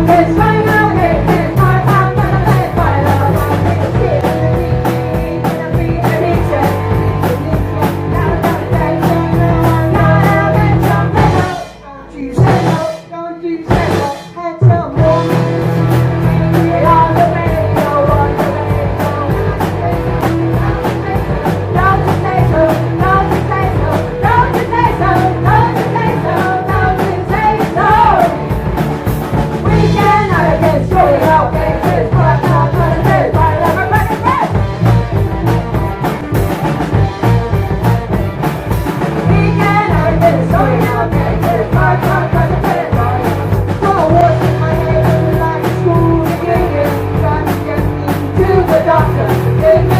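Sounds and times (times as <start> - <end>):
bass: 0.0 - 49.9
fast drum beat: 0.0 - 49.9
rock band playing: 0.0 - 49.9.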